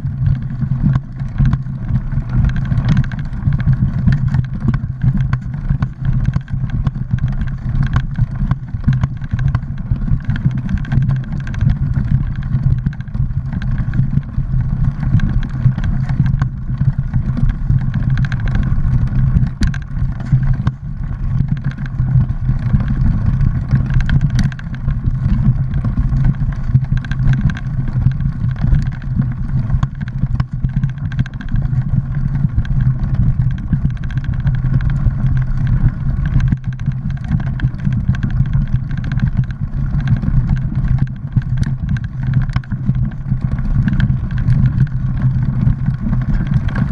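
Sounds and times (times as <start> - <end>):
bike rattling: 0.0 - 46.9
wind and tyres rumbling: 0.0 - 46.9.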